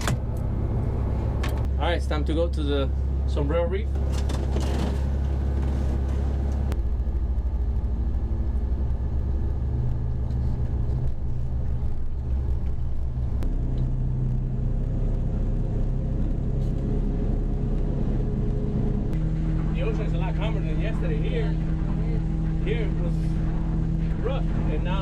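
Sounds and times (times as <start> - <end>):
boat engine drone: 0.0 - 25.0.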